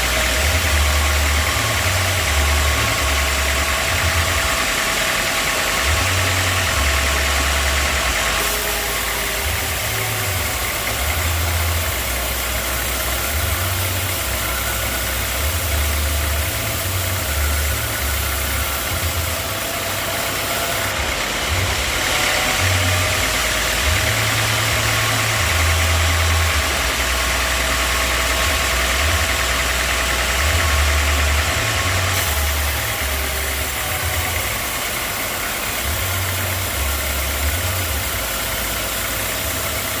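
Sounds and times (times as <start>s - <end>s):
sawmill machinery drone: 0.0s - 40.0s.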